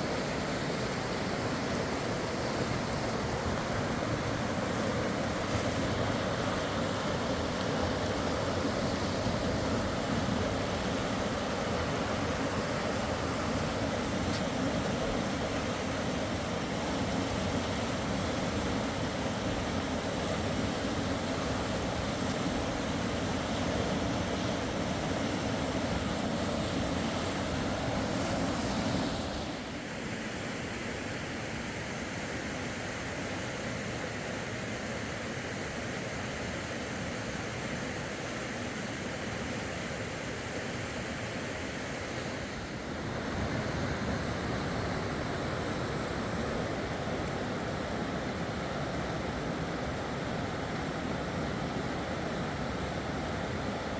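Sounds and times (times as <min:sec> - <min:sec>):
fast-flowing river water: 0:00.0 - 0:53.9.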